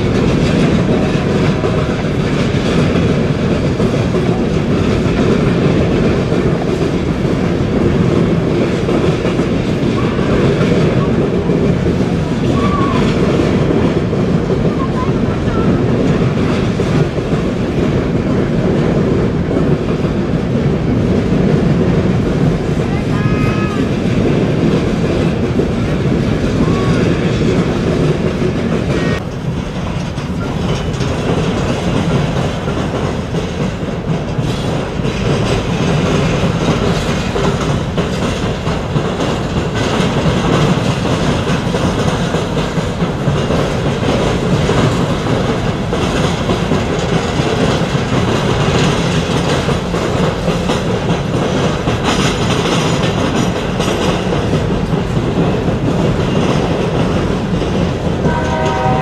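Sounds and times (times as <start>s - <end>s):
train cars rolling on rails: 0.0s - 59.0s.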